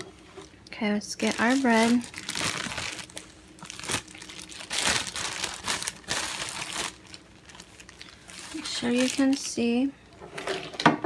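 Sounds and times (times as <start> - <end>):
plastic bag crinkling: 1.0 - 9.9.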